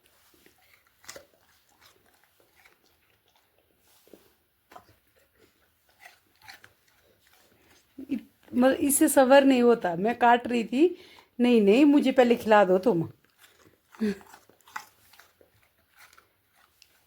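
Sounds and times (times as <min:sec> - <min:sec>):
dog crunching an apple: 0:00.0 - 0:09.2, 0:11.1 - 0:17.0.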